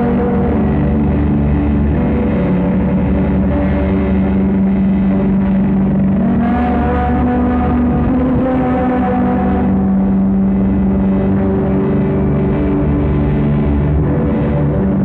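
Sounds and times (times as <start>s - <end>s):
drone music sustained tones: 0.0s - 15.0s
low hum: 0.0s - 15.0s.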